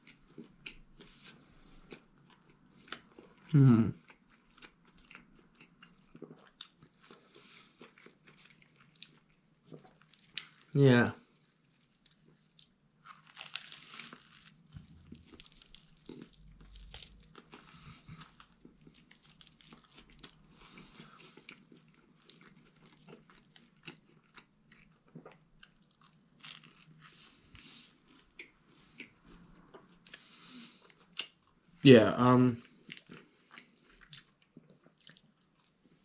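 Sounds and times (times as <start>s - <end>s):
person chewing food: 0.0s - 31.7s, 32.6s - 36.0s.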